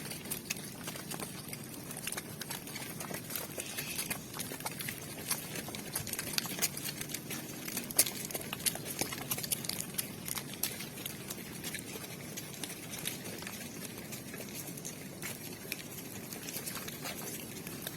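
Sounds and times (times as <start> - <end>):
cattle hooves on hard ground: 0.0 - 17.9.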